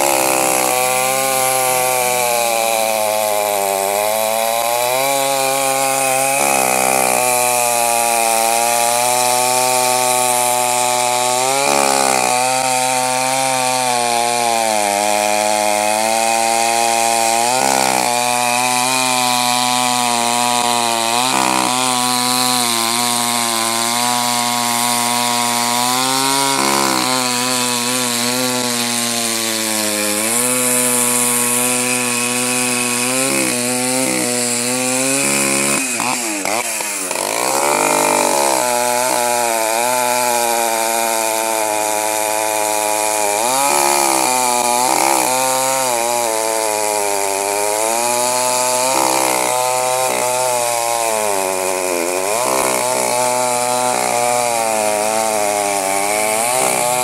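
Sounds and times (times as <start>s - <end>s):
chainsaw cutting through log: 0.0s - 57.0s.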